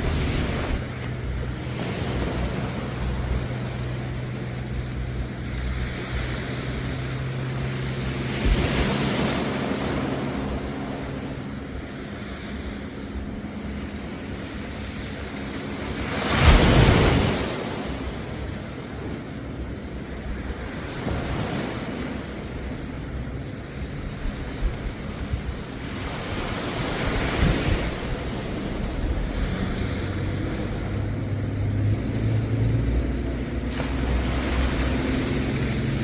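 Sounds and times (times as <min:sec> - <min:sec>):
low motor hum: 0:00.0 - 0:36.0
sea waves washing onto beach: 0:00.0 - 0:36.0.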